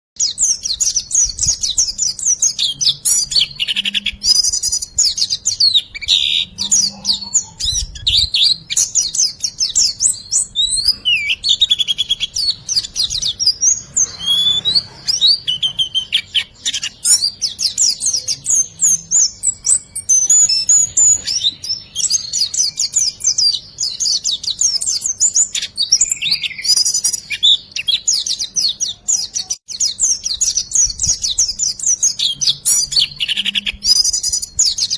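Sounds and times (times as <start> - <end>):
bird singing high chirping trills: 0.2 - 34.9.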